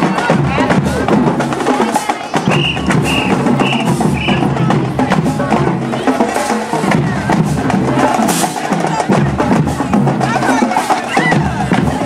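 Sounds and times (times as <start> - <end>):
marching drums: 0.0 - 12.0.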